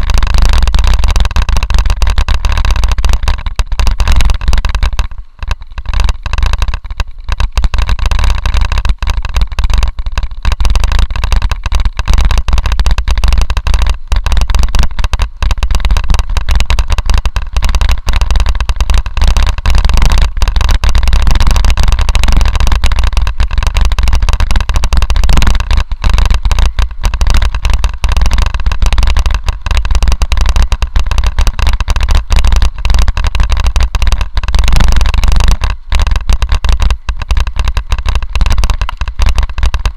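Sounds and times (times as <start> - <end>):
bike rattling clicks: 0.0 - 39.9
wind rumble on microphone: 0.0 - 39.9.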